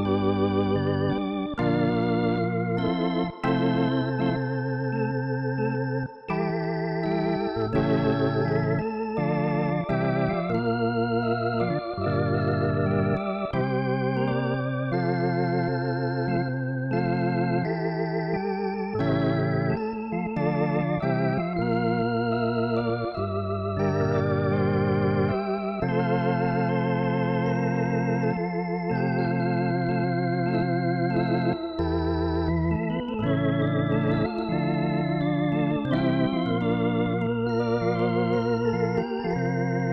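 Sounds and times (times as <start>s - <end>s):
organ chords over bass line: 0.0s - 39.9s.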